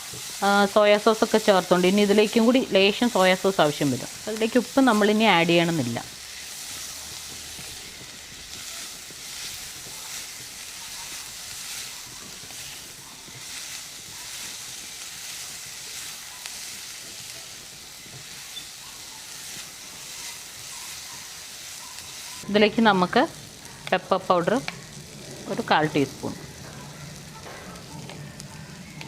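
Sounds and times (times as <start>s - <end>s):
vegetables sizzling in hot oil: 0.0s - 29.0s.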